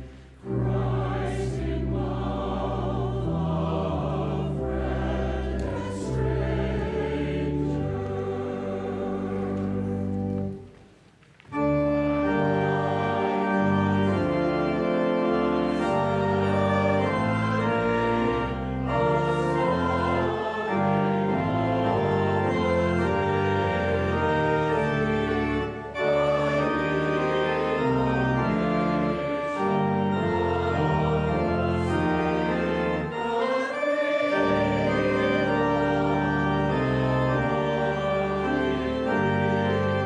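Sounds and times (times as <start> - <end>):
voices singing a hymn: 0.0 - 10.7, 11.6 - 40.0
church organ: 0.0 - 40.0.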